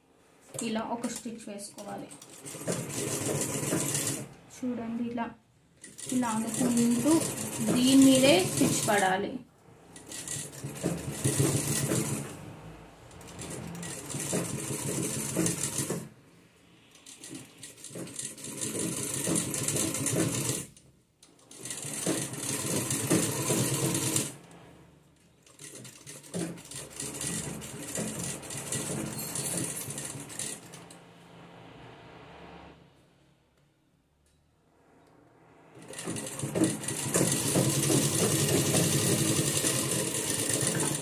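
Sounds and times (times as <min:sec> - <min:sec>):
sewing machine stitching: 0:00.4 - 0:04.4, 0:05.8 - 0:09.2, 0:09.8 - 0:31.0, 0:35.7 - 0:41.0.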